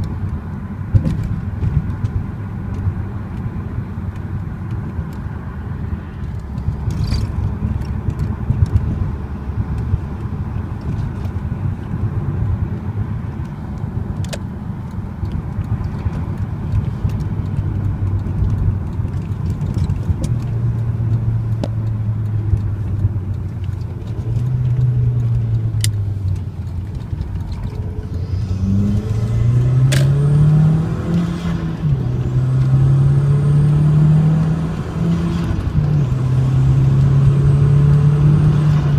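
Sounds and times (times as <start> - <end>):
car engine accelerating: 0.0 - 38.9
road rumble: 0.0 - 38.9.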